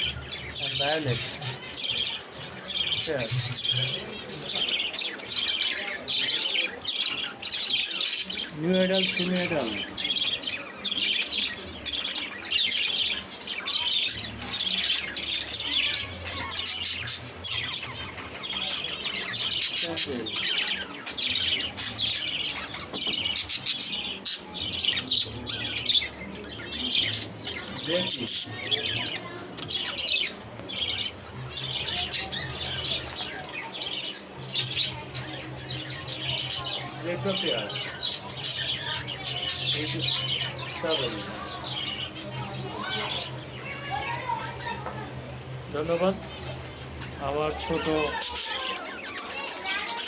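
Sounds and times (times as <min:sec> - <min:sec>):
caged birds chirping: 0:00.0 - 0:50.0.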